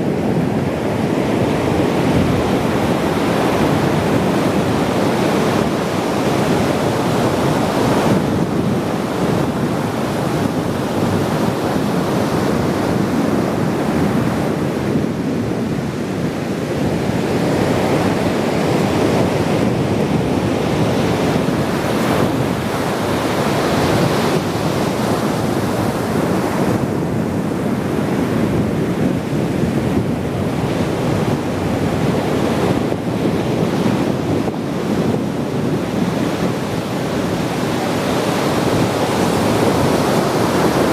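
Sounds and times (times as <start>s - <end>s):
ocean surf washing ashore: 0.0s - 40.9s
wind on microphone: 0.0s - 40.9s.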